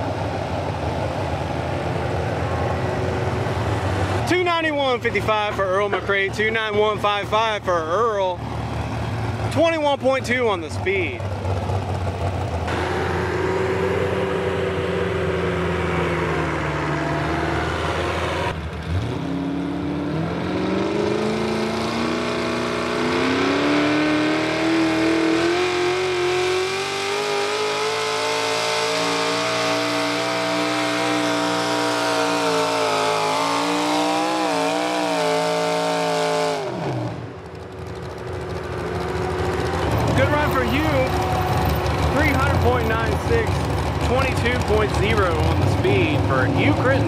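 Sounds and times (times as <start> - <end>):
pulling tractor engine revving: 0.0 - 47.0.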